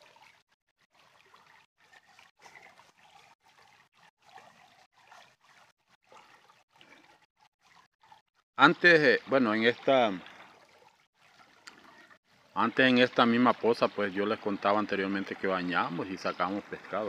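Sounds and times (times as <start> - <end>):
river water trickling: 0.0 - 17.0.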